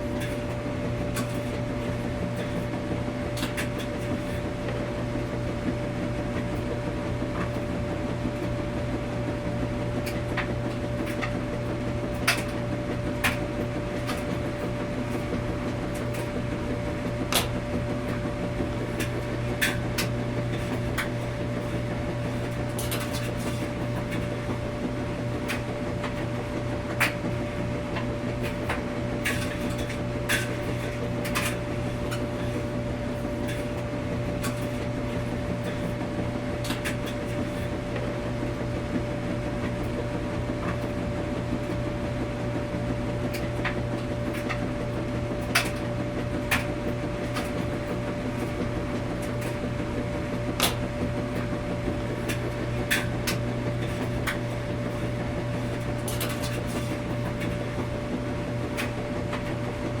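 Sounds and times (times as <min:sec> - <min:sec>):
washing machine humming: 0:00.0 - 1:00.0.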